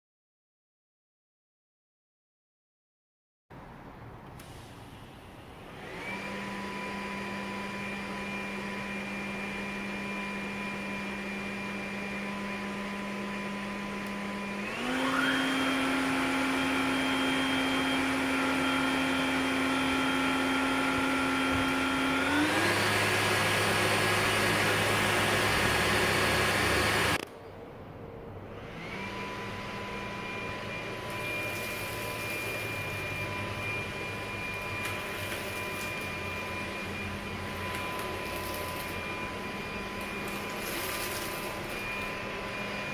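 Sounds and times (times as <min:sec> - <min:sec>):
vacuum cleaner motor whine: 0:04.4 - 0:27.2, 0:28.5 - 0:42.9.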